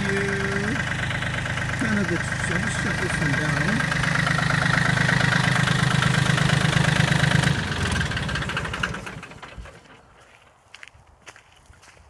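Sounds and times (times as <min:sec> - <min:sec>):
diesel engine running down: 0:00.0 - 0:10.4.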